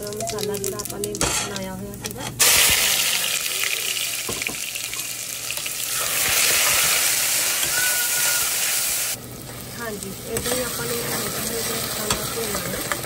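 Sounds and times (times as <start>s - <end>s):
paste sizzling in hot oil: 2.4s - 13.0s.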